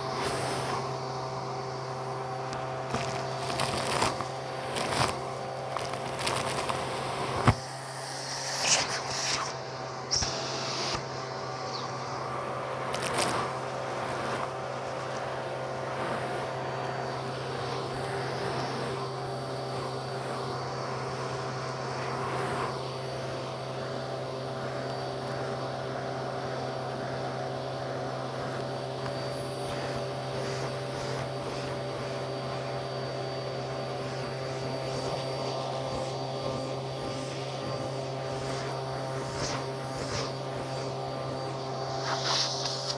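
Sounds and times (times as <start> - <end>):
vacuum cleaner motor droning: 0.0 - 42.9.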